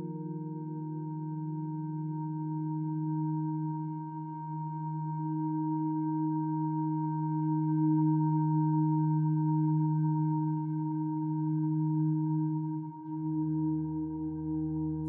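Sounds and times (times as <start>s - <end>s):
ambient drone music: 0.0s - 15.0s.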